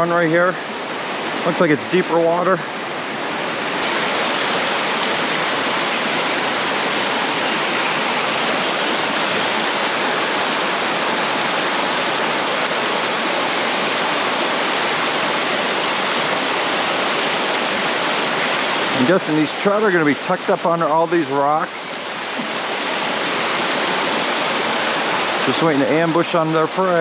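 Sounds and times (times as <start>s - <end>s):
stream running over rocks: 0.0s - 27.0s.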